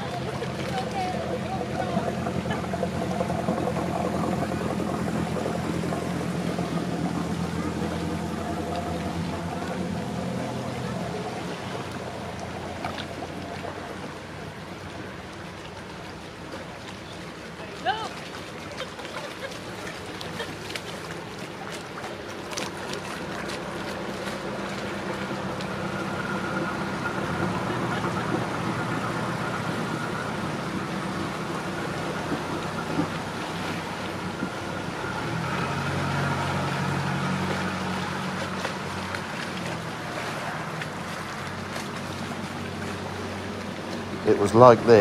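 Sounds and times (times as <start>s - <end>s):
boat diesel engine humming: 0.0s - 45.0s
second boat engine: 0.0s - 45.0s.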